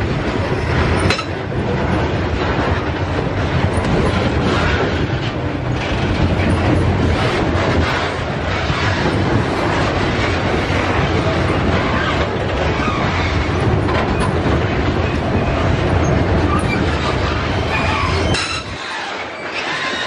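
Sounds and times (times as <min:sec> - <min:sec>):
freight train wheels rolling: 0:00.0 - 0:20.0.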